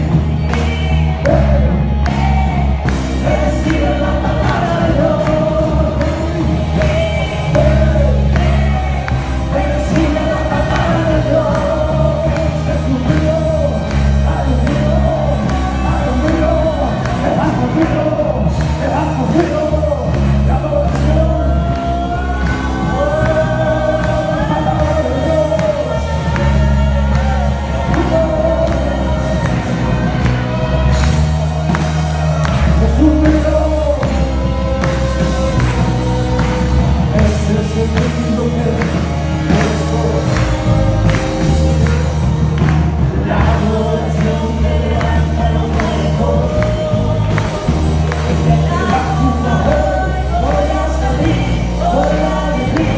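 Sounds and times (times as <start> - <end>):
band with steady bass line: 0.0 - 52.9
group of voices singing: 0.0 - 52.9.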